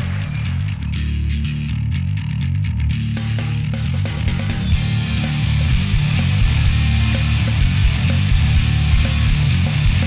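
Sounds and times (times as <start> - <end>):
hard rock music with electric guitars: 0.0 - 10.0.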